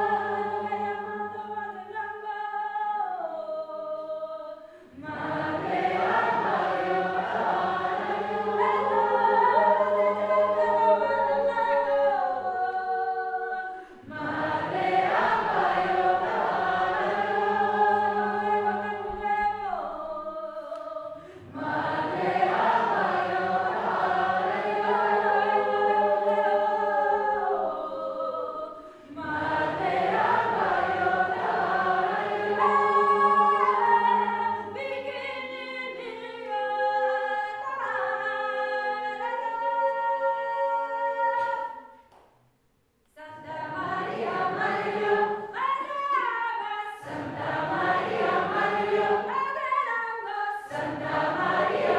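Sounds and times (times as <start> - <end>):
group singing a cappella: 0.0 - 42.0, 43.1 - 51.9.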